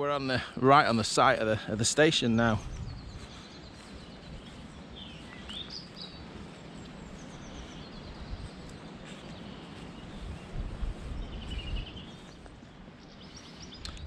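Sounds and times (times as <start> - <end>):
songbirds chirping and trilling: 0.0 - 14.0
low rumble on microphone: 2.2 - 14.0.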